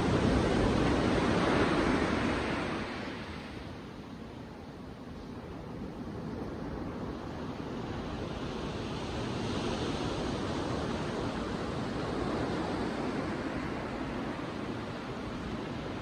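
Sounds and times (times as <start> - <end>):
sea waves breaking on beach: 0.0 - 4.0, 5.8 - 16.0.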